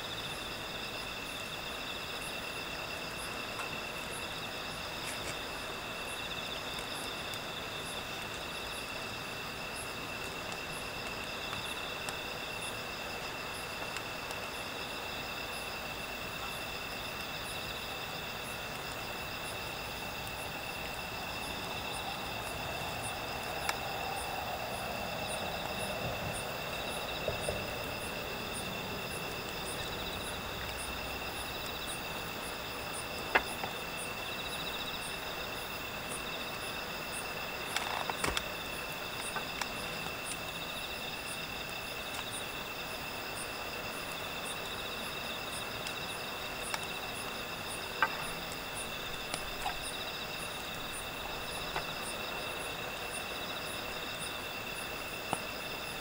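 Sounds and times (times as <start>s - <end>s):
crickets trilling: 0.0s - 56.0s
high insect chirp: 0.0s - 56.0s.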